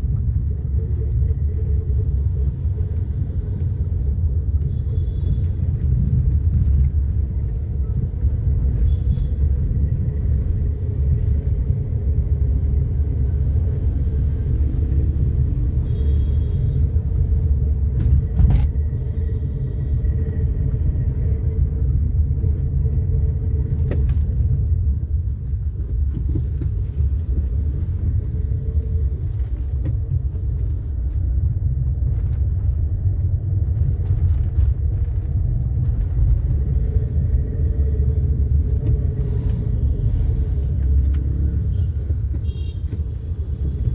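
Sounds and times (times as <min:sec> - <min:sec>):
car engine and tyres rumbling: 0:00.0 - 0:43.9.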